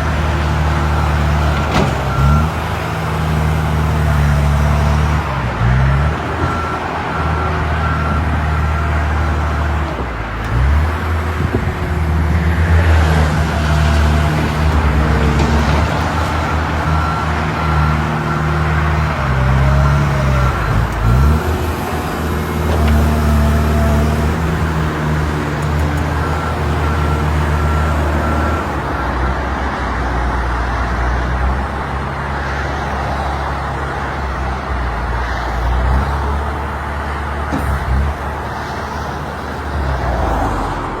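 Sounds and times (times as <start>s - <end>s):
diesel machinery running: 0.0s - 41.0s.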